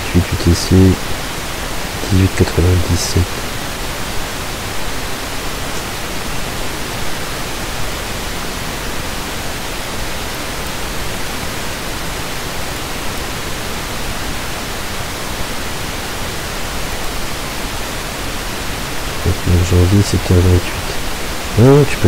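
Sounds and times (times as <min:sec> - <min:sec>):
microphone hiss: 0:00.0 - 0:22.0.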